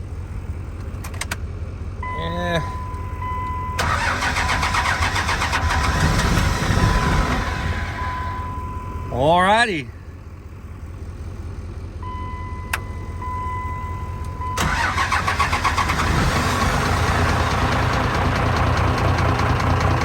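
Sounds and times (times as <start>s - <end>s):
diesel engine cranking and starting: 0.1s - 9.2s, 10.0s - 20.0s.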